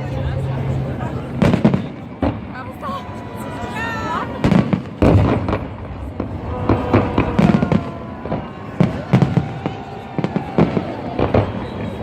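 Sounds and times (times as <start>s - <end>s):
fireworks bangs: 1.1s - 12.0s.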